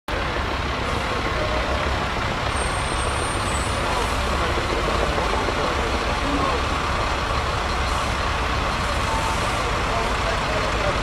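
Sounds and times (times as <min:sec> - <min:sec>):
street noise: 0:00.1 - 0:11.0
truck engine rumbling: 0:00.1 - 0:11.0.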